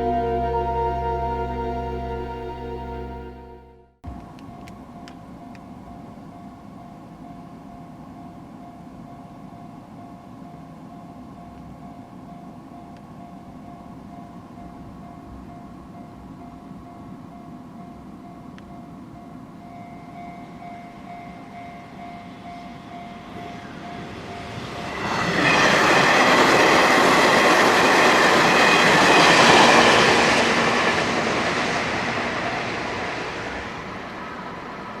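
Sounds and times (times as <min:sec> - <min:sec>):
level-crossing warning bell: 0:00.0 - 0:03.8, 0:04.5 - 0:35.0
electric train passing: 0:00.0 - 0:35.0.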